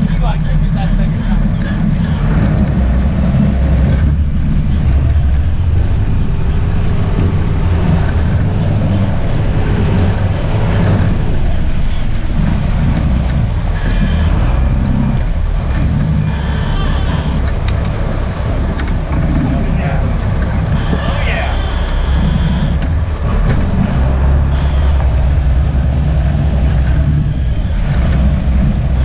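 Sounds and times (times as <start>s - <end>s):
boat engines rumbling: 0.0s - 29.0s
water churning: 0.0s - 29.0s
wind on microphone: 0.0s - 29.0s.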